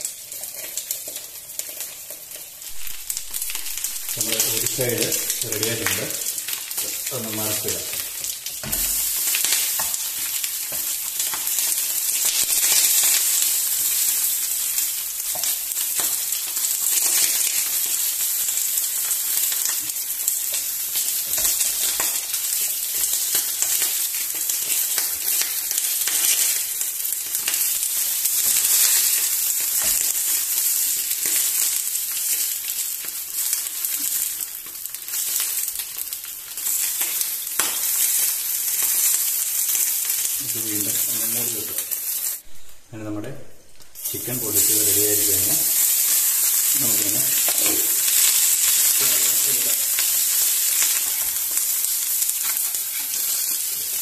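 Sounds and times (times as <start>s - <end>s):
chicken sizzling in oil: 0.0s - 42.5s, 44.0s - 54.0s.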